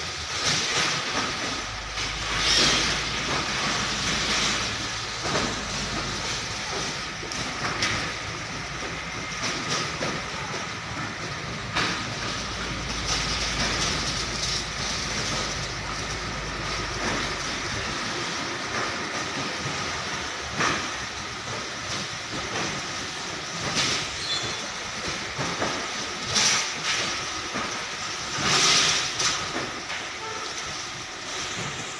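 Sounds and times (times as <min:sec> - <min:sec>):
container chassis rattling: 0:00.0 - 0:31.9.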